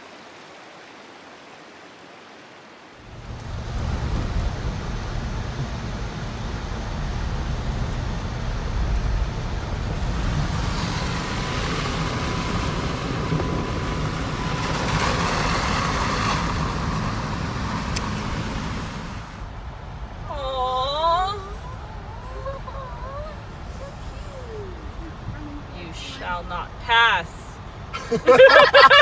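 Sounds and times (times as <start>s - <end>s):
engine rumble and road noise: 2.9s - 29.0s.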